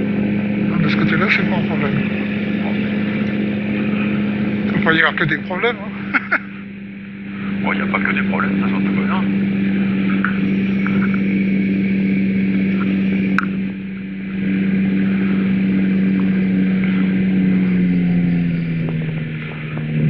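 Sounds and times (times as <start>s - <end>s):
engine and propeller droning: 0.0s - 20.0s.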